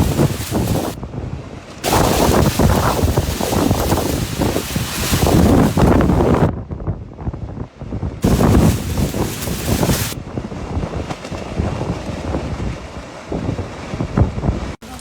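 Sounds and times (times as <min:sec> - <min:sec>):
gale wind buffeting microphone: 0:00.0 - 0:14.8.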